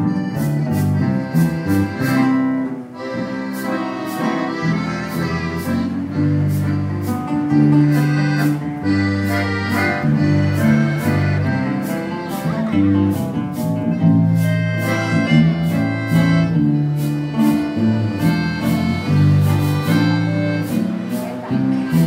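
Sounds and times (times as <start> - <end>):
accordion playing a waltz: 0.0 - 22.0
guitar accompaniment: 0.0 - 22.0.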